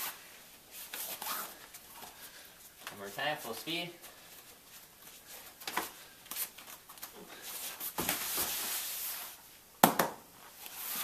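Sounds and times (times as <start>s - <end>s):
bare feet scuffling on mat: 0.0s - 9.4s.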